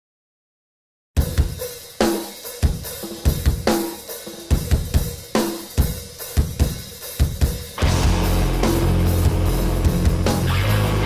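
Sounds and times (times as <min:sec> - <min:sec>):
drum kit background music: 0:01.2 - 0:11.0.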